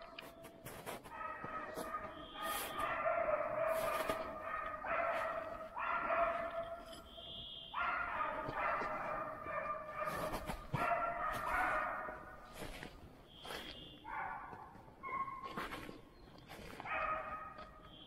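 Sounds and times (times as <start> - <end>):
dogs barking: 0.8 - 18.0.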